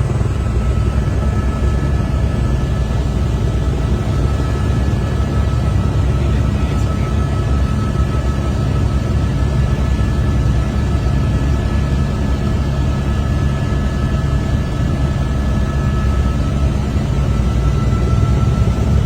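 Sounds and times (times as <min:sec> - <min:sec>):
helicopter rotor and engine drone: 0:00.0 - 0:19.0
thin constant whine: 0:00.0 - 0:19.0.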